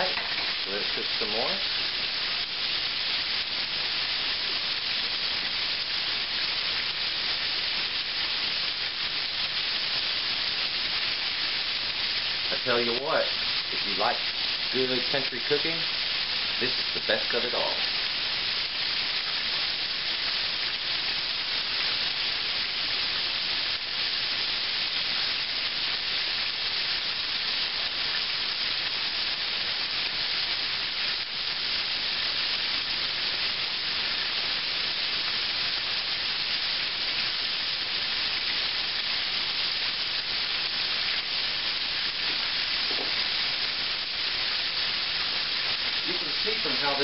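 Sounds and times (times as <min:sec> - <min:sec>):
steak frying in oil: 0:00.0 - 0:47.0.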